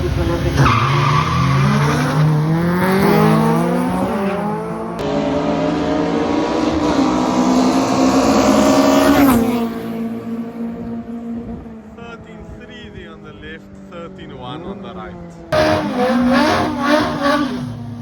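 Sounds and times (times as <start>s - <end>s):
racing cars accelerating hard: 0.0s - 12.6s, 13.7s - 18.0s.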